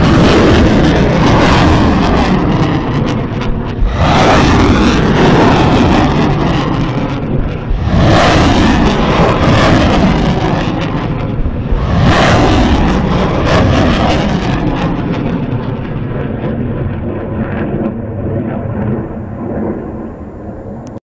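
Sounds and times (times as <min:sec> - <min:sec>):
rapid crackling blasts: 0:00.0 - 0:21.0
rocket launcher salvo roar: 0:00.0 - 0:21.0.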